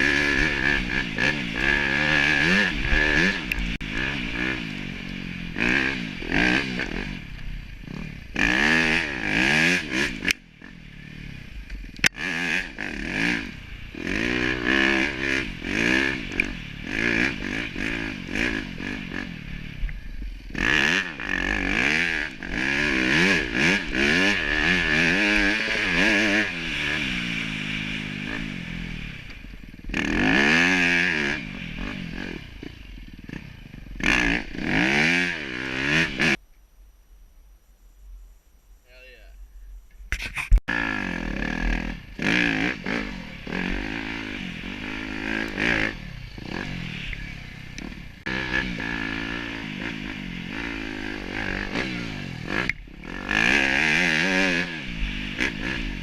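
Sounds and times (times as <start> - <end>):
snow bike engines revving: 0.0 - 36.4, 40.2 - 56.0.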